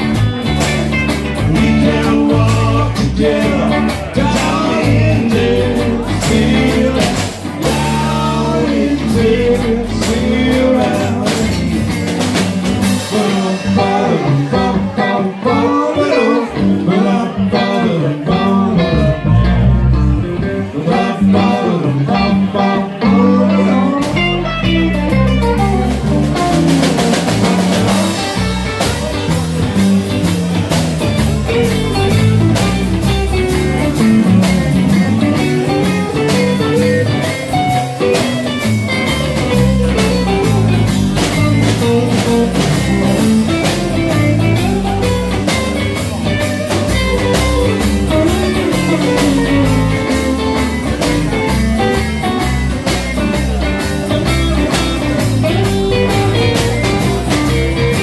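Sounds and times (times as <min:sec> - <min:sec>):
drum kit beat: 0:00.0 - 0:15.6, 0:18.3 - 0:21.6, 0:22.3 - 0:58.0
blues-rock band playing: 0:00.0 - 0:58.0.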